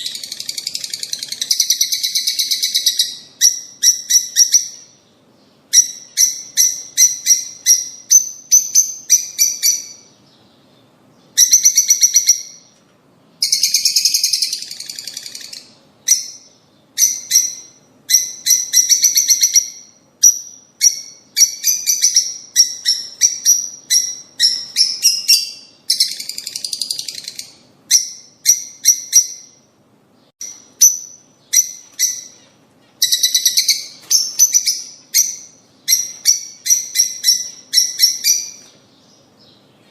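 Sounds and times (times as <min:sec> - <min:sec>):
lovebirds chirping shrilly: 0:00.0 - 0:12.7, 0:13.4 - 0:29.7, 0:30.4 - 0:39.9.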